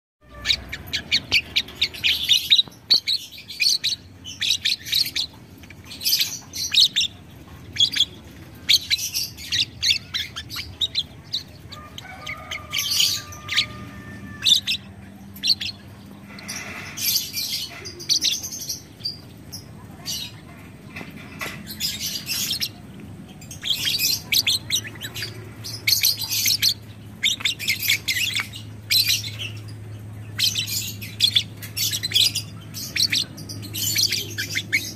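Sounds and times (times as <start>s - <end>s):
lovebird chattering chirps: 0.2s - 20.5s, 21.2s - 34.9s.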